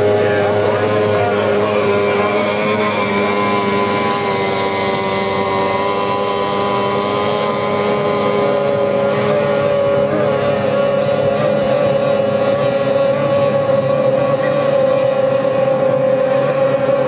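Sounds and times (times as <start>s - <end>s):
outboard engines whining: 0.0s - 17.0s.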